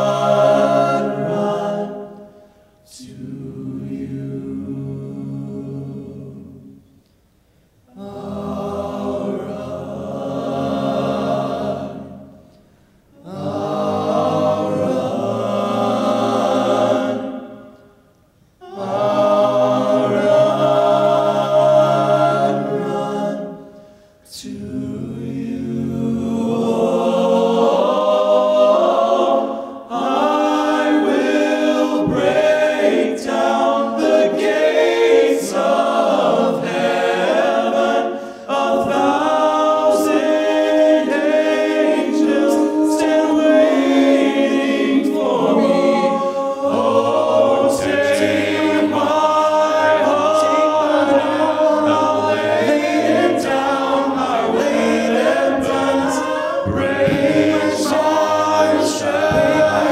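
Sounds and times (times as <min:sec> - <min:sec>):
men's a cappella singing: 0:00.0 - 0:02.3, 0:02.9 - 0:06.7, 0:07.9 - 0:12.3, 0:13.2 - 0:17.7, 0:18.6 - 0:59.9.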